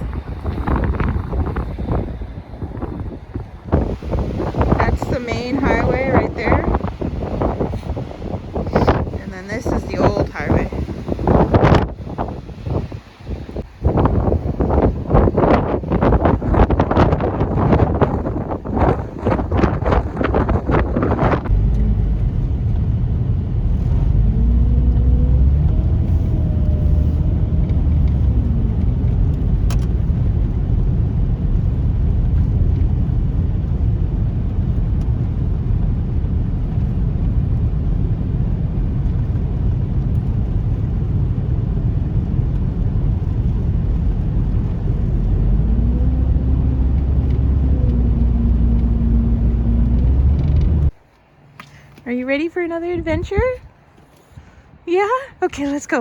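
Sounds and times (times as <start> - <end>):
road rumble: 0.0 - 56.0
vehicle engine hum: 0.0 - 56.0.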